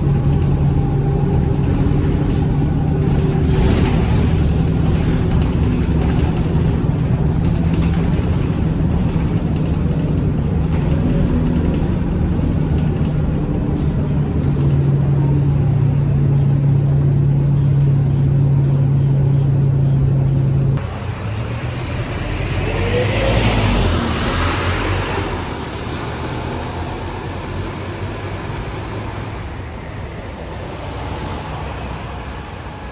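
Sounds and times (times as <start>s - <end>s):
bus engine drone: 0.0s - 32.9s
road noise: 0.0s - 32.9s.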